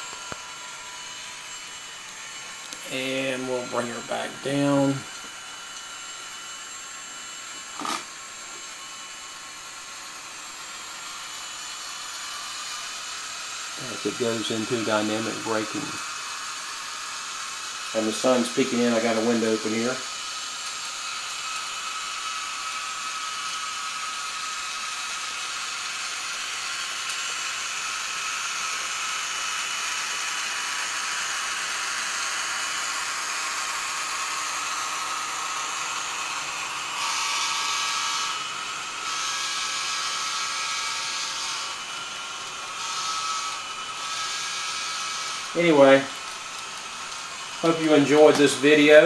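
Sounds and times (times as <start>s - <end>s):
whirring hiss of brake blowers: 0.0s - 22.5s, 30.3s - 49.0s.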